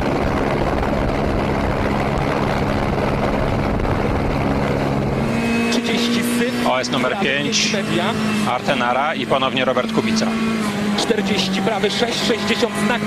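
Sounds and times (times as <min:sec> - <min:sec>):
helicopter engine and rotor drone: 0:00.0 - 0:13.0
steady engine note: 0:00.0 - 0:13.0
wind noise: 0:00.0 - 0:13.0.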